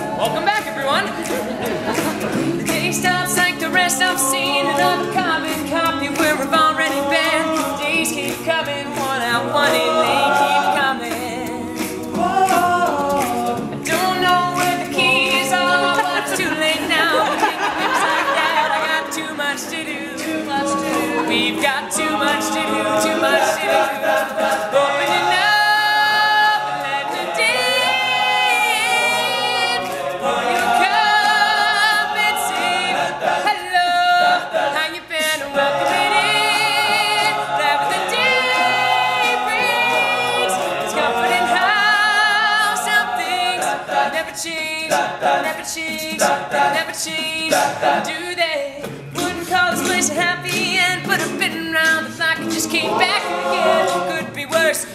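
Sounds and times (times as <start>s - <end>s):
lead voice singing with vibrato: 0.0s - 54.9s
male group singing in harmony: 0.0s - 54.9s.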